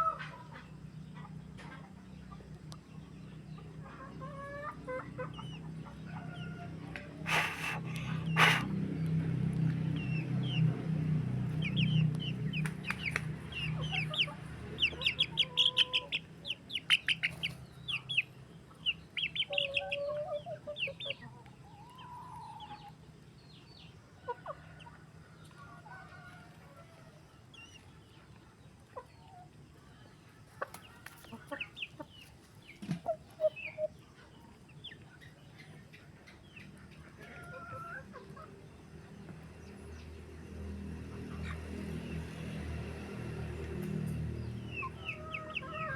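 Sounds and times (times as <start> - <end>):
chickens clucking: 0.0 - 40.2, 41.0 - 45.9.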